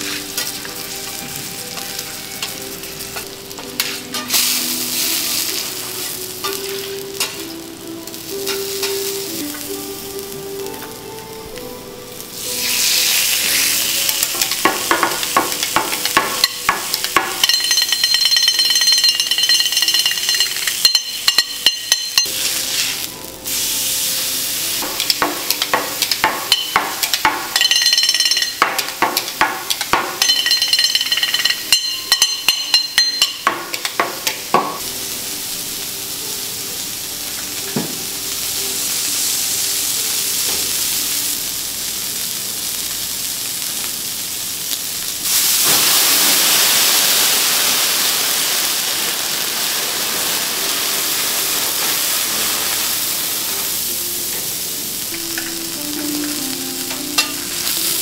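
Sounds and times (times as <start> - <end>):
steak sizzling on griddle: 0.0 - 58.0.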